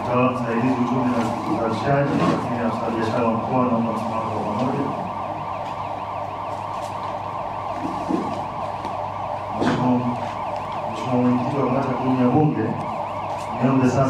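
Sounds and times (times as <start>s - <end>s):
siren yelping: 0.0s - 14.0s.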